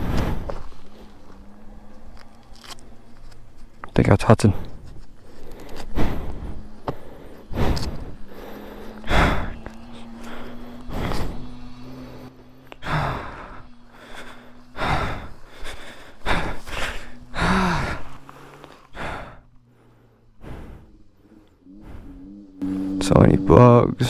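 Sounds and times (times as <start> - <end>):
person breathing heavily: 0.0 - 24.0
steady low hum: 0.0 - 24.0.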